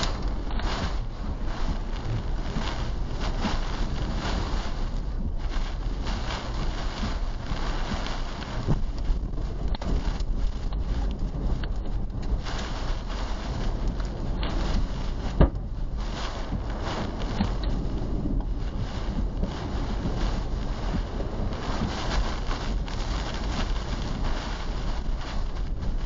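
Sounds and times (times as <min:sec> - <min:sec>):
low rumble: 0:00.0 - 0:26.0
wind and rain buffeting a car: 0:00.0 - 0:26.0.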